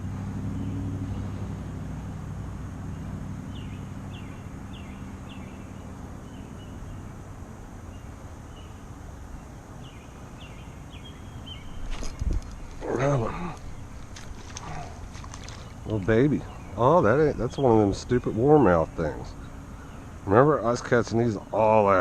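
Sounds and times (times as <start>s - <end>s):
low hum: 0.0s - 20.2s
outdoor steady noise: 0.0s - 22.0s.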